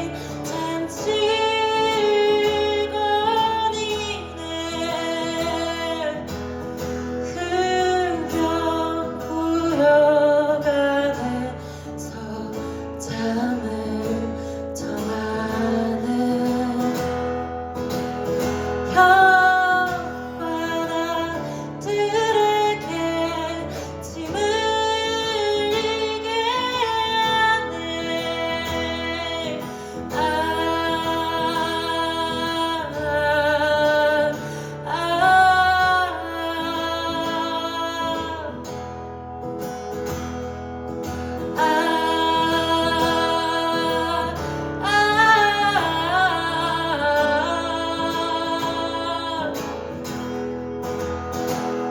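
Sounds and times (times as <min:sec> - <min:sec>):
woman singing: 0:00.0 - 0:39.4, 0:41.0 - 0:50.4
acoustic guitar: 0:00.0 - 0:51.9.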